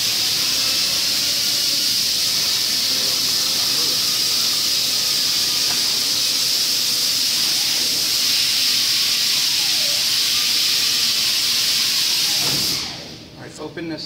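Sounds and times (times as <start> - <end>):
loud steady hiss: 0.0 - 13.2.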